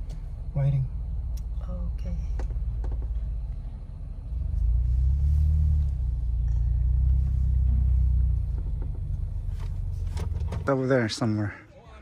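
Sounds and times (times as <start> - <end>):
engine and road rumble inside car: 0.0 - 11.6.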